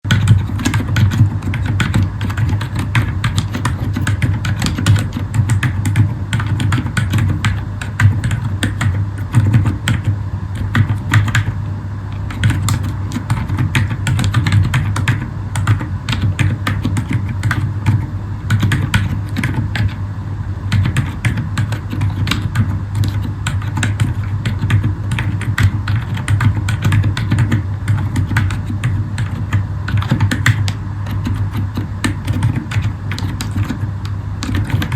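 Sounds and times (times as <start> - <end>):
typing on mechanical keyboard: 0.1 - 11.6, 12.2 - 20.0, 20.7 - 34.9.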